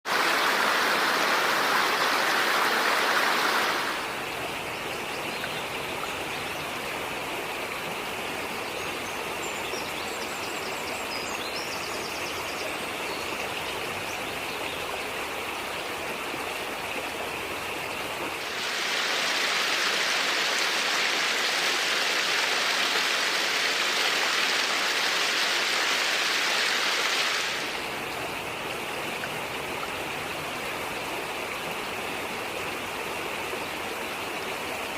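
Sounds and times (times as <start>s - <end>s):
stream water rushing: 0.1s - 34.9s.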